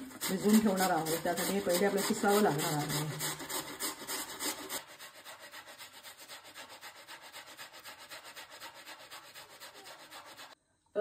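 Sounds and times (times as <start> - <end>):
cucumber rasping on metal grater: 0.0 - 10.6.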